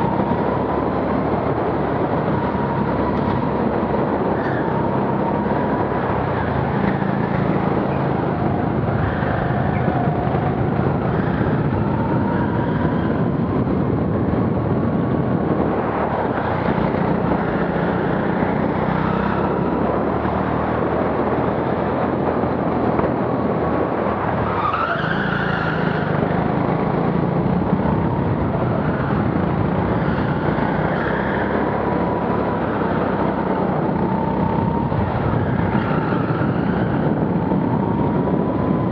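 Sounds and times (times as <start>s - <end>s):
go-kart engine rumble: 0.0s - 38.9s.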